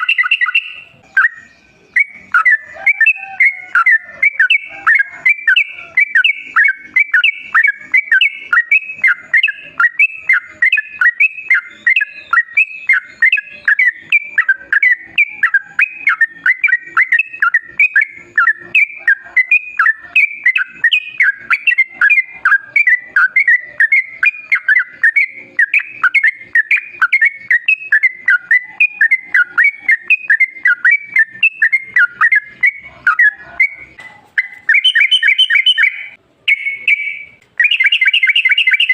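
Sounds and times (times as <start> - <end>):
bird song bubbling whistles: 0.0 - 38.9.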